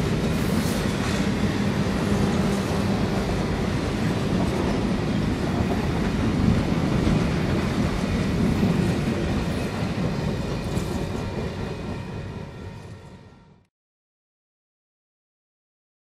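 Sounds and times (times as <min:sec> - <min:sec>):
train cars rumbling on rails: 0:00.0 - 0:13.6.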